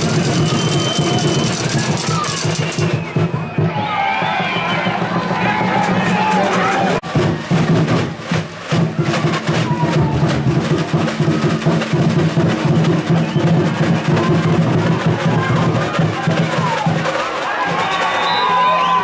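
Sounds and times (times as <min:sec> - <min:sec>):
drums and percussion beat: 0:00.0 - 0:19.0.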